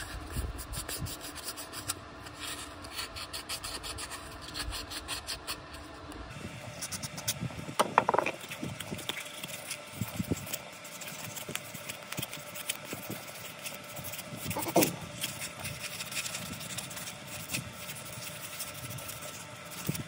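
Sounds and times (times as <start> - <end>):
sandpaper rubbing on metal: 0.0 - 5.7, 8.4 - 20.0.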